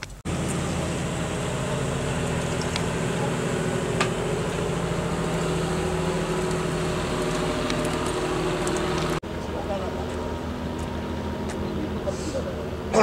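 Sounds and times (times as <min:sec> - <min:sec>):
engine droning: 0:00.2 - 0:13.0.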